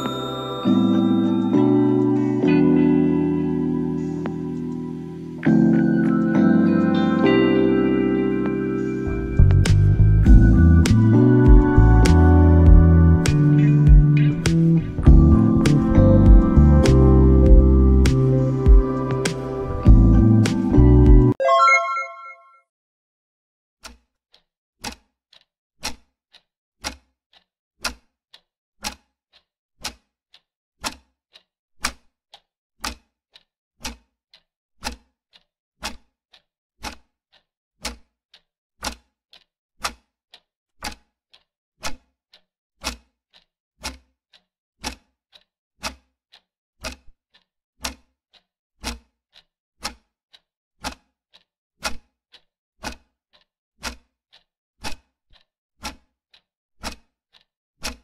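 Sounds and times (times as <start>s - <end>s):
clock ticking: 0.0s - 21.4s, 23.8s - 26.0s, 26.8s - 30.0s, 30.8s - 51.5s, 52.3s - 58.0s.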